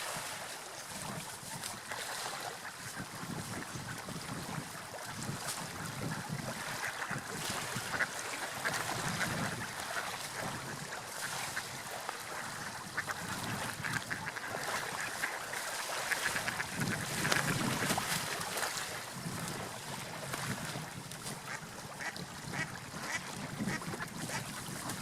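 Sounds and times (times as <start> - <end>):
sea waves: 0.0 - 25.0
wind: 0.0 - 25.0.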